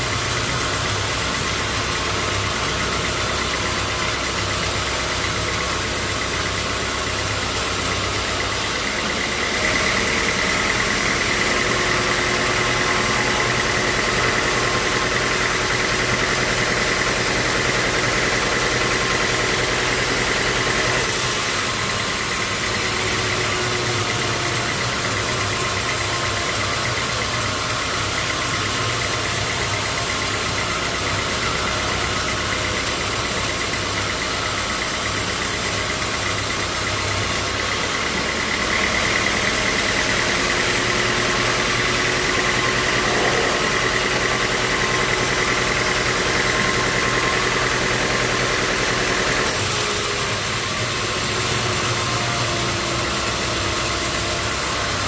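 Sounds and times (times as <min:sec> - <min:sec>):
lower machine tone: 0:00.0 - 0:54.8
bandsaw mill whining: 0:00.0 - 0:55.0.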